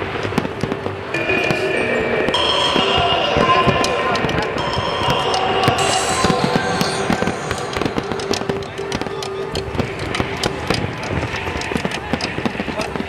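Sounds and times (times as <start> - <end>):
steady tones: 0.0 - 12.7
fireworks crackling and popping: 0.0 - 13.0.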